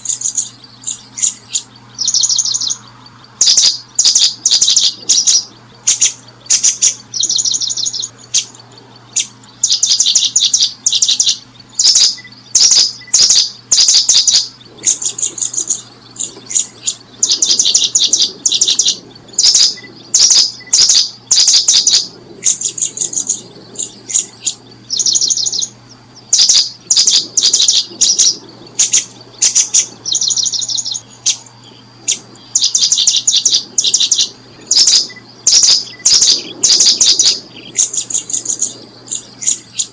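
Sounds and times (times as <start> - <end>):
bird chirping in rapid trills: 0.0 - 39.9.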